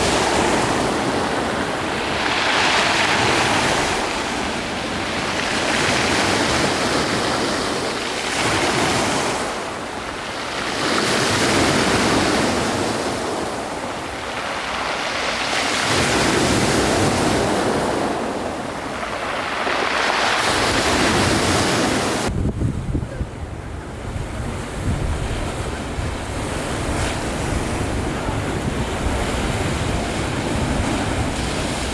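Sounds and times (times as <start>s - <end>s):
sea waves washing in: 0.0s - 22.3s, 25.4s - 31.9s.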